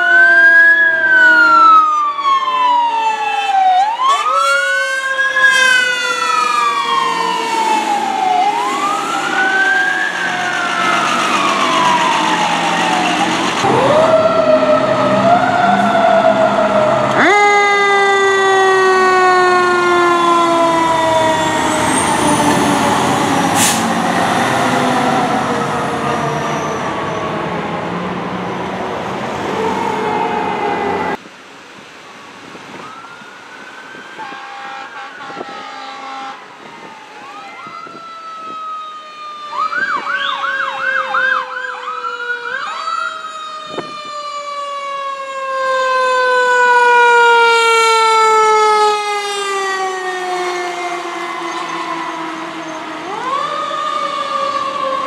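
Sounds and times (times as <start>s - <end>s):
quieter siren wailing and yelping: 0.0s - 28.7s, 29.3s - 31.2s, 32.8s - 35.4s, 36.6s - 55.0s
fire truck siren wailing: 0.0s - 31.2s, 32.3s - 55.0s.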